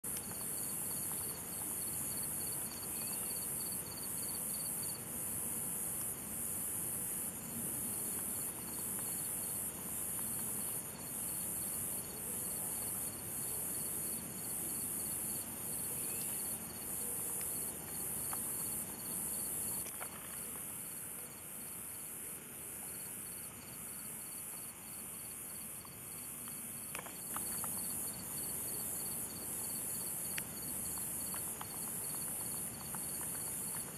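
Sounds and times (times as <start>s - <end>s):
faint fast insect trill: 0.1s - 33.9s
insects buzzing loudly: 0.1s - 33.9s.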